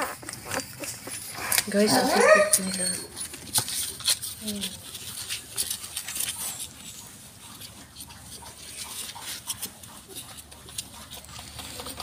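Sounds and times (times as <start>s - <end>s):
puppies suckling clicks: 0.0s - 12.0s.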